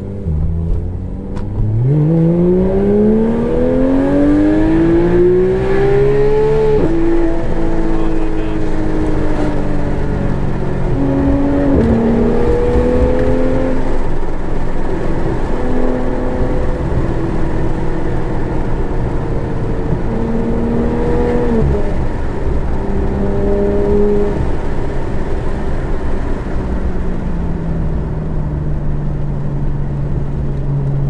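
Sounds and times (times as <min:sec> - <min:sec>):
gear shift engine pitch drop: 0:00.0 - 0:25.4
car engine heard from cabin: 0:00.0 - 0:31.0.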